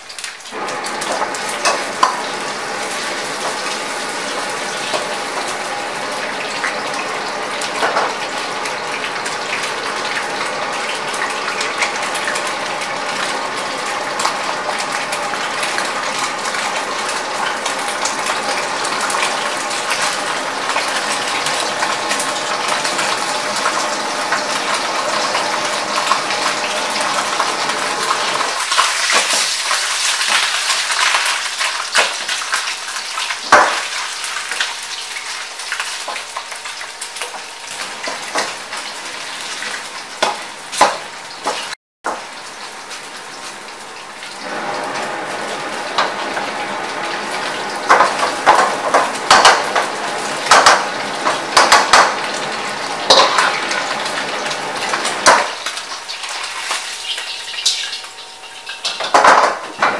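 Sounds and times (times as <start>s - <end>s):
meat sizzling in a wok: 0.0s - 59.9s.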